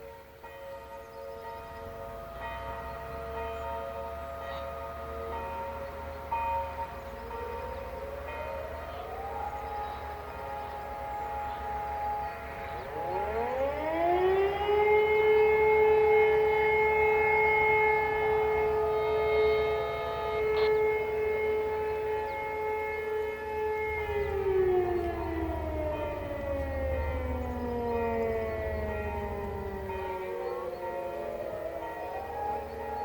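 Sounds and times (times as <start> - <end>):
electromechanical siren: 1.4 - 33.0.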